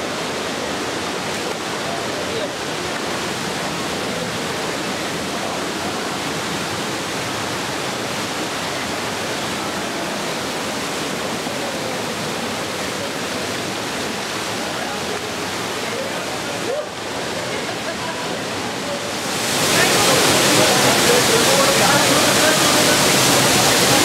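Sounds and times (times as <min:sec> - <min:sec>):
stream rushing over boulders: 0:00.0 - 0:24.0.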